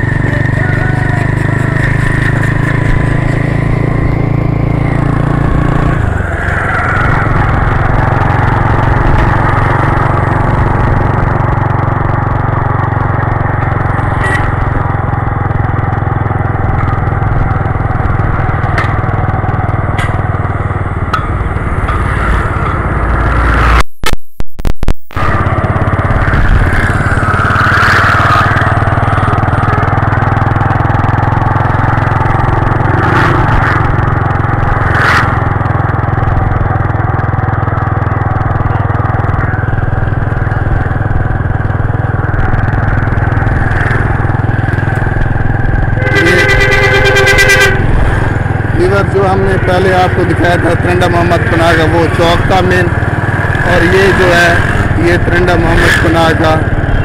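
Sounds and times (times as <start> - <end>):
vehicle engine running: 0.0 - 23.9, 25.1 - 57.0
wind rumble: 1.4 - 53.7.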